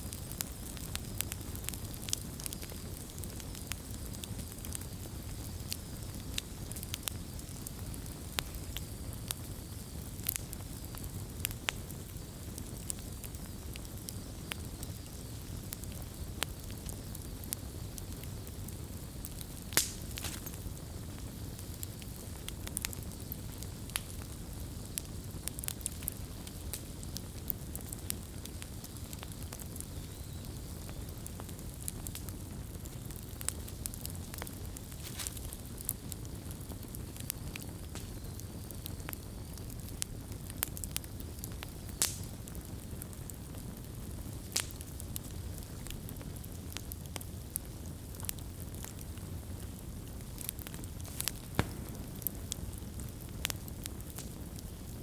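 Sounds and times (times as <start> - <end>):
fire crackling and popping: 0.0 - 55.0
low rush of flame: 0.0 - 55.0.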